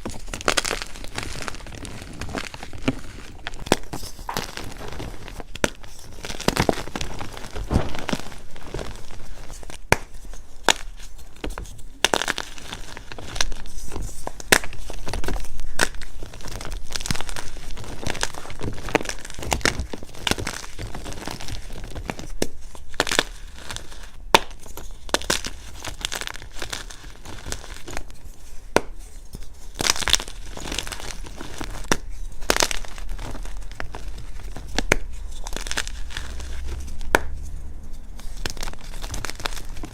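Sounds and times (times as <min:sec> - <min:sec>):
chalk crushing and crackling: 0:00.0 - 0:39.9.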